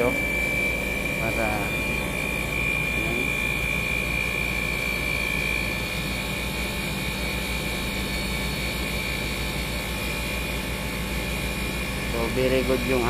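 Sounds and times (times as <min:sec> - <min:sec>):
air conditioner droning: 0:00.0 - 0:13.0
high whine: 0:00.0 - 0:13.0.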